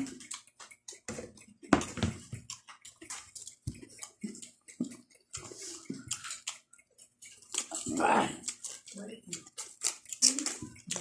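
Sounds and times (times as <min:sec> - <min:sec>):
chewing crisp vegetables: 0:00.0 - 0:11.0.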